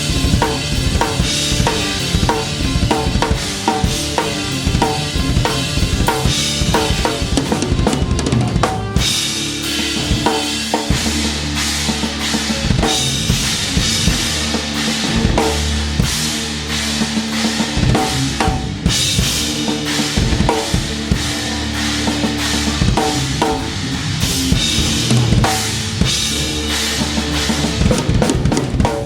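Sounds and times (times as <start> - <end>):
low bass notes: 0.0 - 29.0
rock drum kit beat: 0.0 - 29.0.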